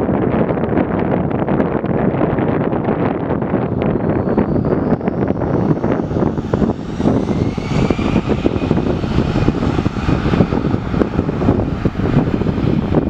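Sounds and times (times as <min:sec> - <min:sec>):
jet engines at takeoff power: 0:00.0 - 0:13.0.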